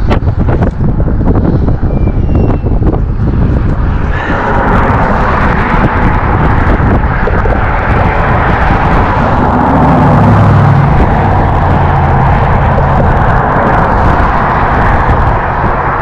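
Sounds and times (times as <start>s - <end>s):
road traffic noise: 0.0s - 16.0s
wind buffeting microphone: 0.0s - 16.0s.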